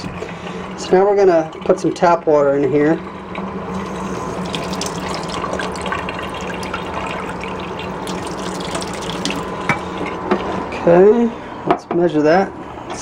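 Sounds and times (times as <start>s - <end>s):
tap water running into sink: 0.0s - 10.6s.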